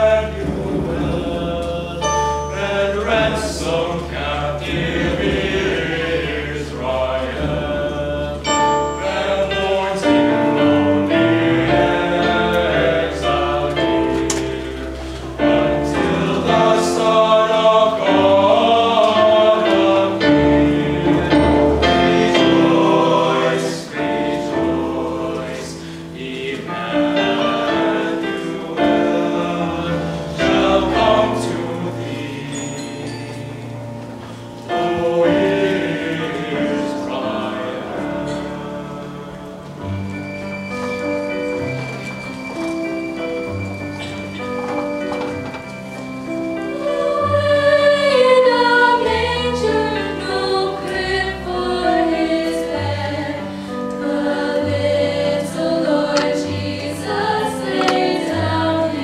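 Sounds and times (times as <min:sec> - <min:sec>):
choir singing a carol: 0:00.0 - 0:59.0.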